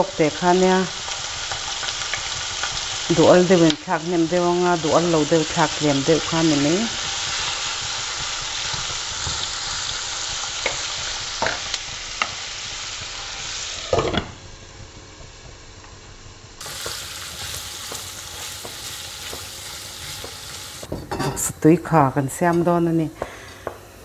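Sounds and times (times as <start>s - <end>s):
meat sizzling in a wok: 0.0s - 21.3s.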